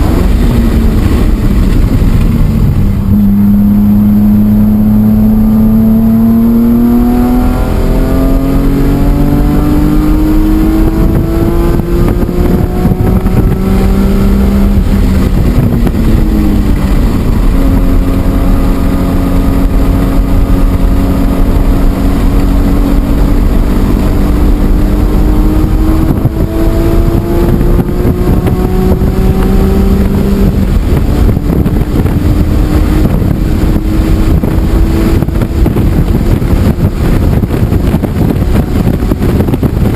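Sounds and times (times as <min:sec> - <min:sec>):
car engine accelerating hard: 0:00.0 - 0:39.9
wind noise: 0:00.0 - 0:39.9.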